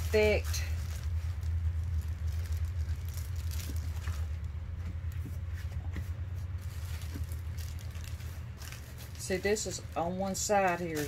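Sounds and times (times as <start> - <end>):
low hum: 0.0 - 11.0
plastic bag crinkling: 0.0 - 11.0.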